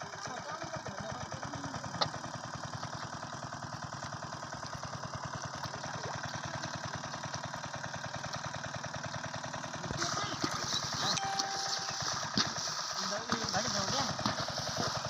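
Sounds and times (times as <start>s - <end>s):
pump engine running: 0.0s - 15.0s.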